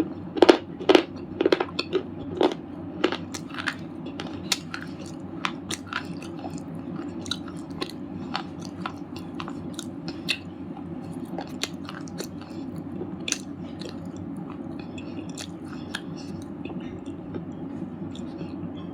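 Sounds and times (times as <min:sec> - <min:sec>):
chewing crunches: 0:00.0 - 0:18.6
low hum: 0:00.0 - 0:18.9.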